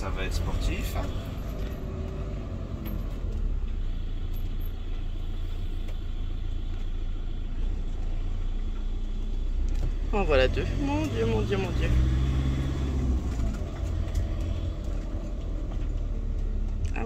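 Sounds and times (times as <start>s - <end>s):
motorhome engine drone: 0.0s - 17.0s
road noise inside cab: 0.0s - 17.0s.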